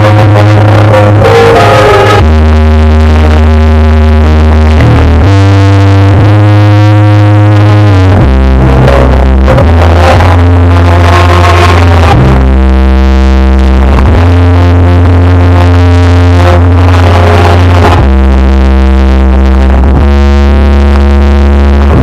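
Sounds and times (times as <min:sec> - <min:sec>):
loud dance remix music: 0:00.0 - 0:22.0.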